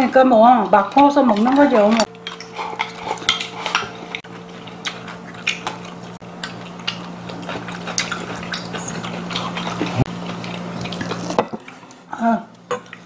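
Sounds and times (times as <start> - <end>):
low background hum: 0.0 - 13.0
chewing: 1.3 - 13.0.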